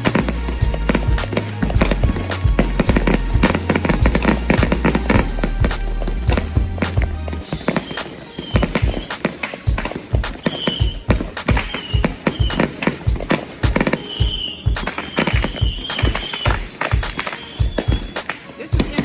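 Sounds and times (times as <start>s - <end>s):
fireworks bangs and pops: 0.0s - 19.0s
rockets whistling: 0.0s - 19.0s.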